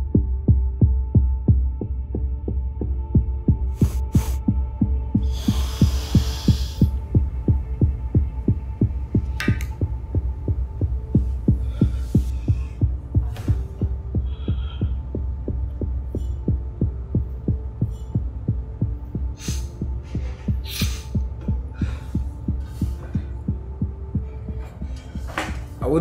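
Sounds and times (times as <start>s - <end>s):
low steady drone: 0.0s - 25.9s
heartbeat thumps: 0.0s - 26.0s.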